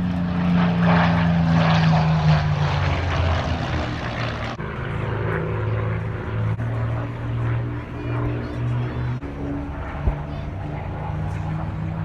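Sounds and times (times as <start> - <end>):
propeller aircraft engines droning: 0.0 - 12.0.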